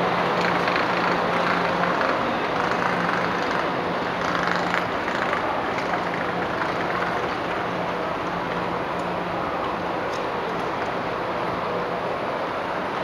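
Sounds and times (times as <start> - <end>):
electric train running noise: 0.0 - 13.0.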